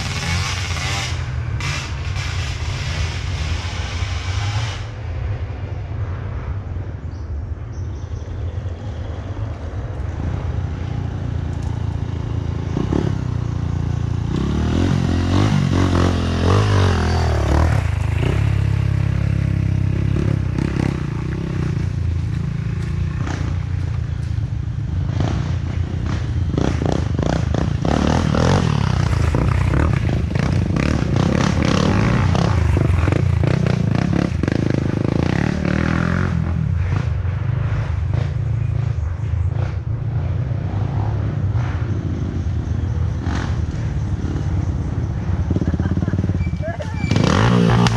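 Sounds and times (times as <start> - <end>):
motorcycle engines revving: 0.0 - 5.6, 8.6 - 47.9.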